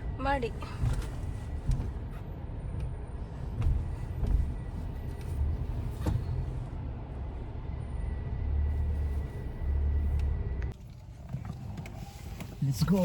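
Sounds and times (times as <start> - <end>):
car interior rumble: 0.0 - 13.0.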